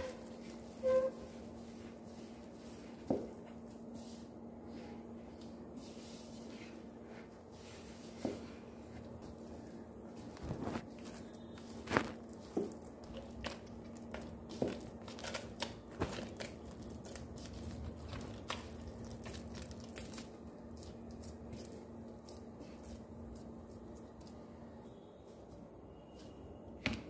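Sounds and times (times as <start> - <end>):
hand kneading sticky dough: 0.0 - 27.0.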